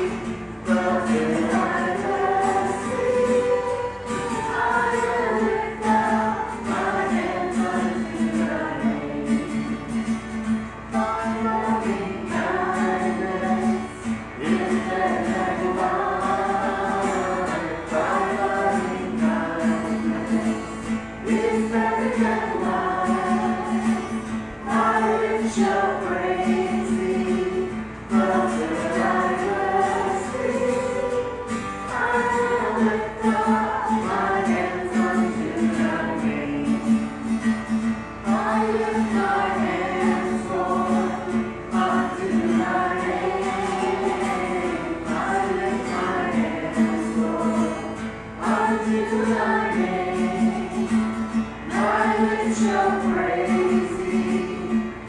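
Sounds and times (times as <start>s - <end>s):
group of voices singing: 0.0s - 55.0s.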